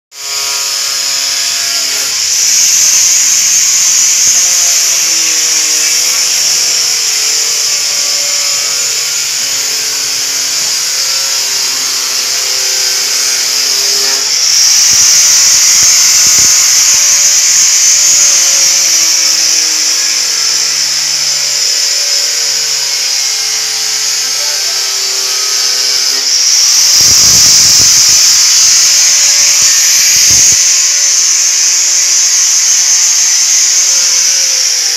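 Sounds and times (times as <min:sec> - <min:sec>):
electric sander whining: 0:00.1 - 0:34.9.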